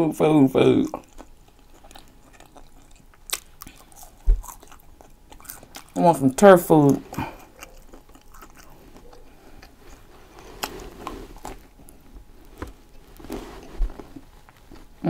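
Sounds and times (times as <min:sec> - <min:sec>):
soft wet chewing: 0:00.6 - 0:15.0.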